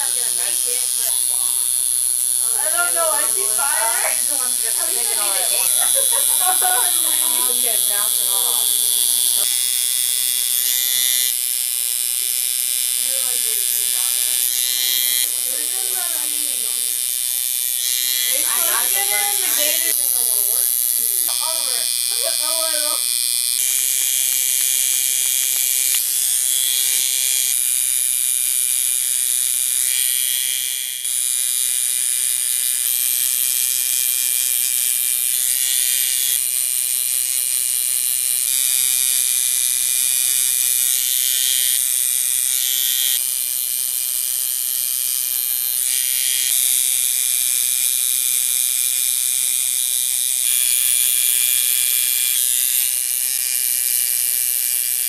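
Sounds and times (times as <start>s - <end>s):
tattoo machine buzzing: 0.0s - 55.0s.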